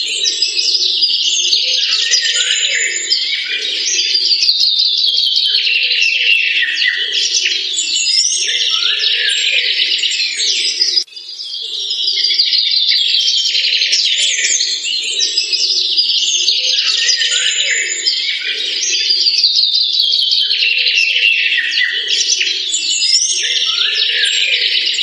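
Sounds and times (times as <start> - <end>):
chorus of birds chirping: 0.0 - 25.0
lower-pitched bird calls: 0.0 - 25.0.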